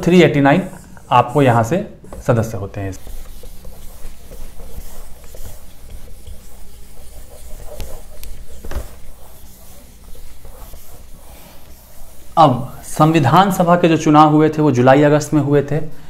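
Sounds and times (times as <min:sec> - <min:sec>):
eraser rubbing on whiteboard: 0:00.3 - 0:13.6.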